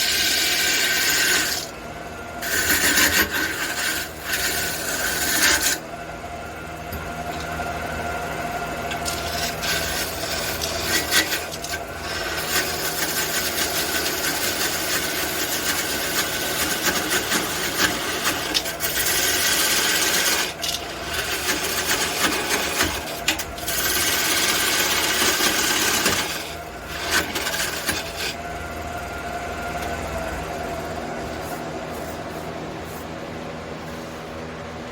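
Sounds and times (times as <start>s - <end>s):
tool scraping spinning wood: 0.0s - 5.9s, 6.9s - 34.4s
wood lathe humming: 0.0s - 33.4s.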